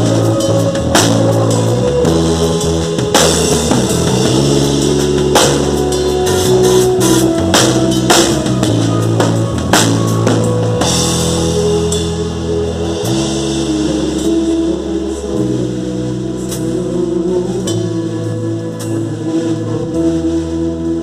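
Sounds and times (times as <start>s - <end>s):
band playing instrumental: 0.0s - 21.0s.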